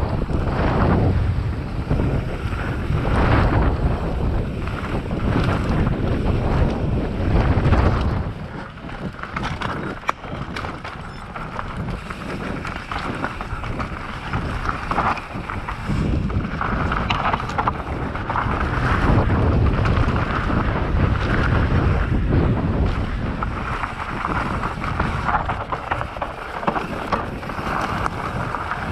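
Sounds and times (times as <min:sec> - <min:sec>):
bike rattling: 0:00.0 - 0:28.9
tyres rolling over dirt: 0:00.0 - 0:28.9
wind buffeting microphone: 0:00.0 - 0:28.9.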